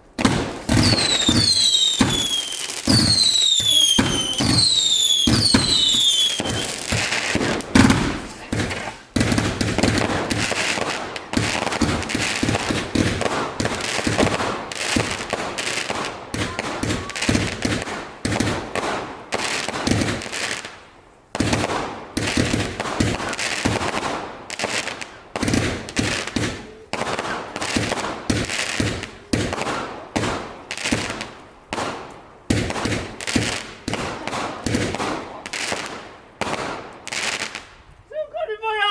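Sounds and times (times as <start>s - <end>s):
fireworks banging and crackling: 0.0s - 38.9s.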